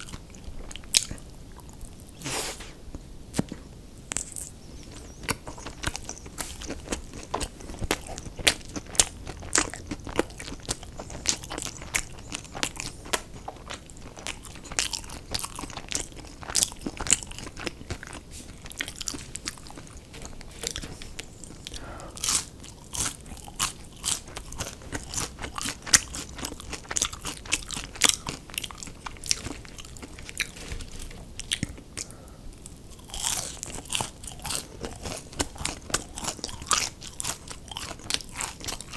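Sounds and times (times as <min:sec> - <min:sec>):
crunchy chewing of food: 0:00.0 - 0:38.9.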